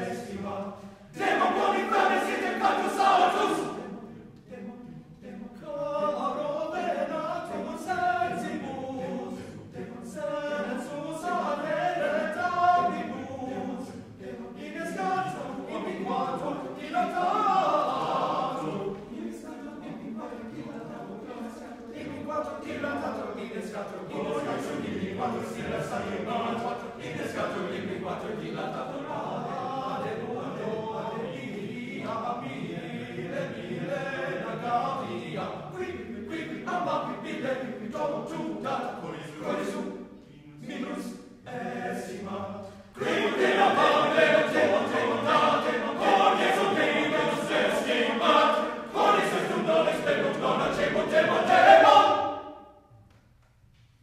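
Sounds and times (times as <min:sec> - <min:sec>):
mixed choir singing a cappella: 0:00.0 - 0:53.0.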